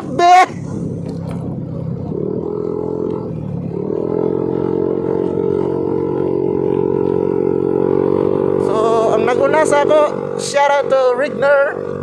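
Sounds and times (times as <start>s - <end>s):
scooter engine under throttle: 0.0s - 12.0s.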